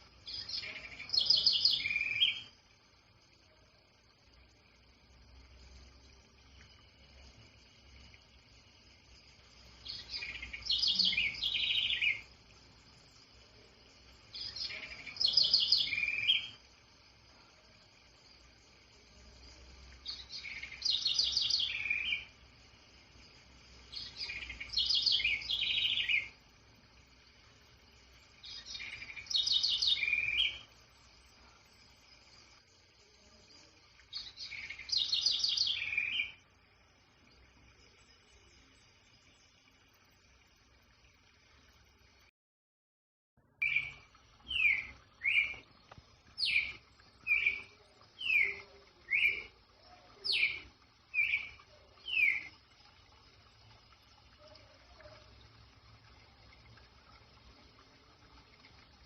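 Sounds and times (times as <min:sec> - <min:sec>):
songbird singing: 0:00.0 - 0:39.7, 0:43.4 - 0:55.4.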